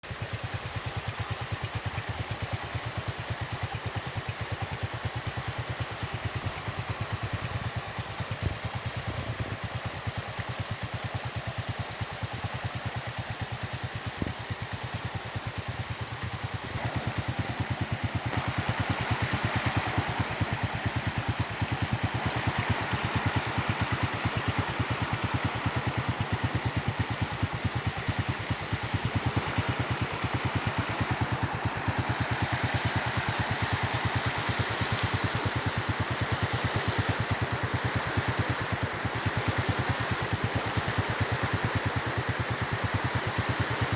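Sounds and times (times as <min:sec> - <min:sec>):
engine running with fast pulse: 0:00.0 - 0:43.9.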